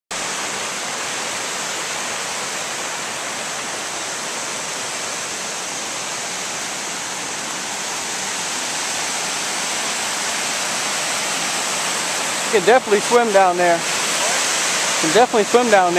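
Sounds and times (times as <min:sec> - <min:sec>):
water rushing over rocks: 0:00.1 - 0:15.9.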